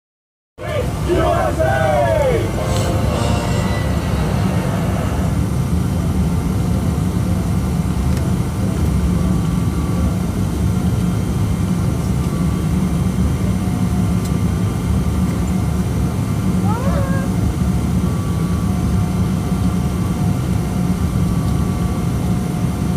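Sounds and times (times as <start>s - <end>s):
airliner cabin low rumble: 0.6s - 22.9s.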